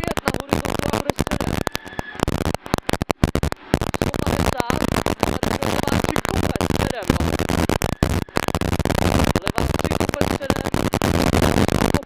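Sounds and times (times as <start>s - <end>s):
harsh crackling distorted noise: 0.0s - 12.0s.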